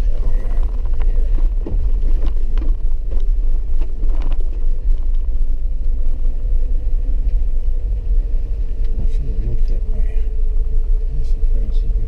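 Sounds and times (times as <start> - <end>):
vehicle rumble from inside cabin: 0.0 - 12.0.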